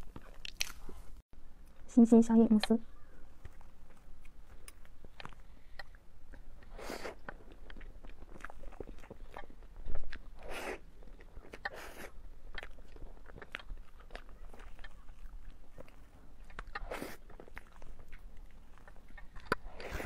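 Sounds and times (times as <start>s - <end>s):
wet chewing sounds: 0.0s - 1.8s, 2.5s - 20.0s.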